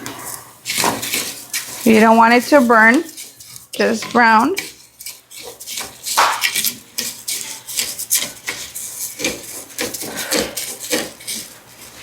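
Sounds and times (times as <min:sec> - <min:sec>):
spoon scraping rice in a pot: 0:00.0 - 0:12.0.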